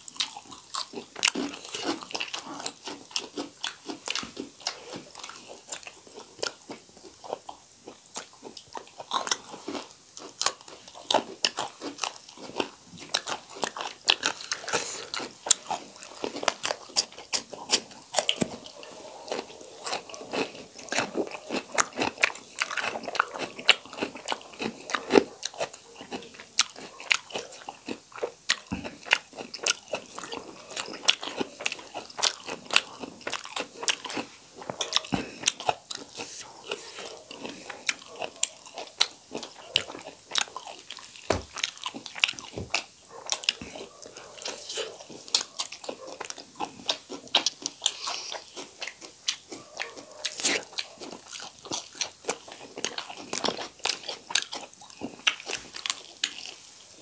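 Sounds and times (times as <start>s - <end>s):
people crunching fried chicken: 0.0s - 57.0s.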